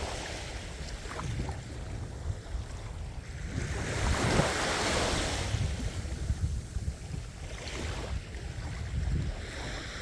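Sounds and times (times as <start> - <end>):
ocean surf washing: 0.0 - 10.0
wind buffeting microphone: 0.0 - 10.0.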